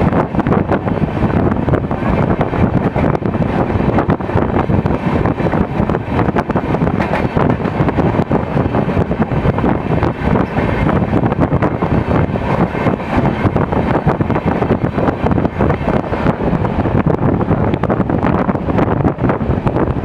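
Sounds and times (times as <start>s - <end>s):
train running at speed: 0.0s - 20.0s
wind buffeting microphone: 0.0s - 20.0s.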